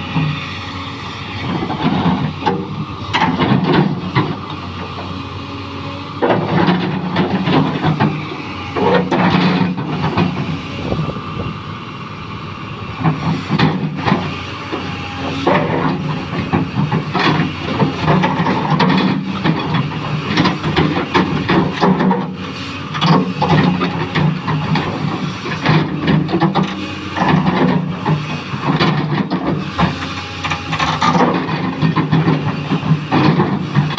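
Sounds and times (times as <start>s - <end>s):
excavator diesel engine: 0.0s - 33.9s.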